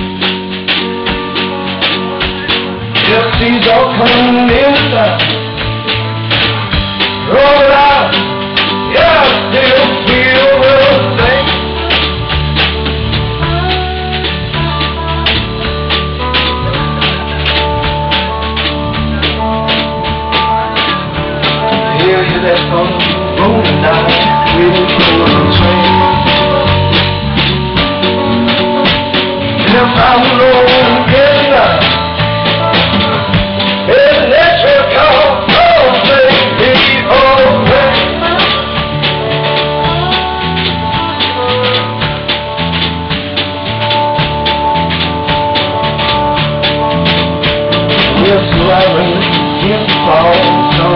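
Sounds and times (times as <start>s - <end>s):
drum kit beat: 0.0s - 50.9s
electric bass: 0.0s - 50.9s
lap slide guitar: 0.0s - 50.9s.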